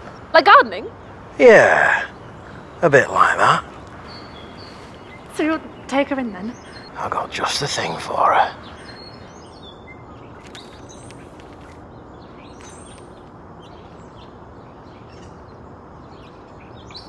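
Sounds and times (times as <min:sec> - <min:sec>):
steady background hum: 0:00.0 - 0:17.0
faint bird chirps: 0:00.8 - 0:17.0.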